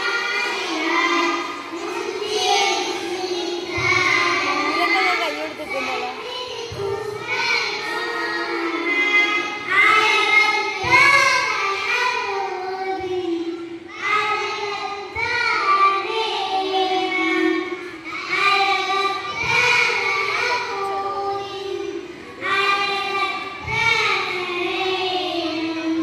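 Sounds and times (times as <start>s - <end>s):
child singing: 0.0s - 26.0s.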